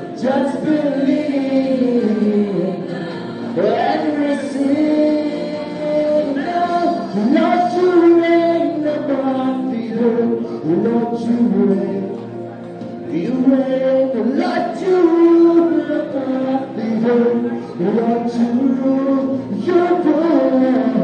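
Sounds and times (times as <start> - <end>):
person singing gospel song: 0.0 - 21.0.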